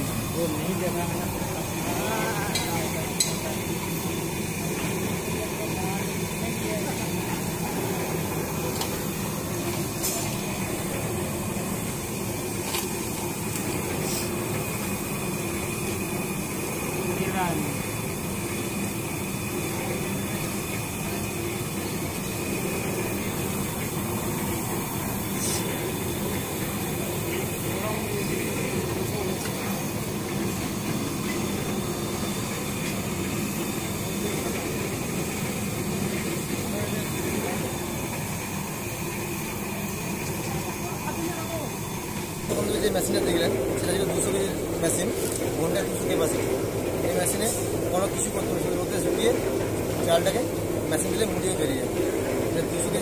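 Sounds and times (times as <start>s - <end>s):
machine drum humming and hissing: 0.0s - 53.0s.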